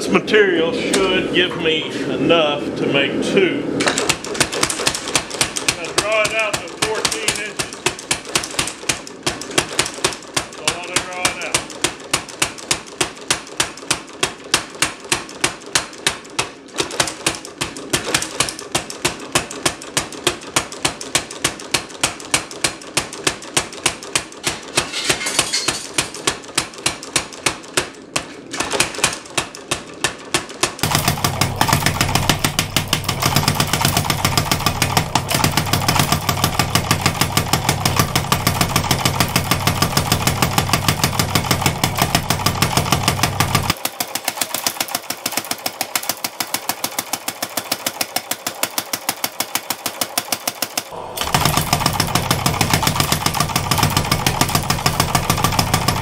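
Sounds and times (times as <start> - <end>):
hammer motor hum: 3.8 - 24.7, 25.8 - 56.0
power hammer pounding metal: 3.8 - 56.0.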